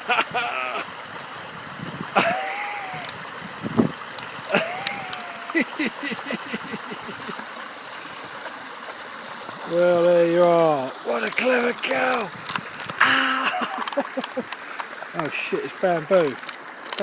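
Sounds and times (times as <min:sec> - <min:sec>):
sharp water splashes: 0:00.0 - 0:17.0
river rapids rushing: 0:02.1 - 0:17.0.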